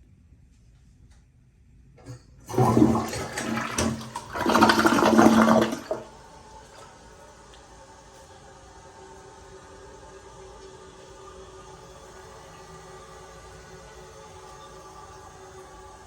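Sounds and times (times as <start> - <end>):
toilet flush click: 2.0 - 16.0
toilet flushing water rush: 2.0 - 16.0.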